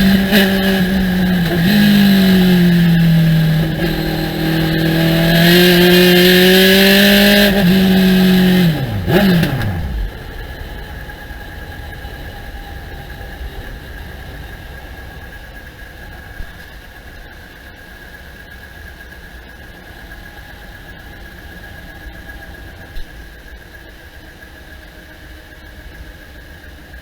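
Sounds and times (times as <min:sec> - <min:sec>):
race car engine running: 0:00.0 - 0:27.0.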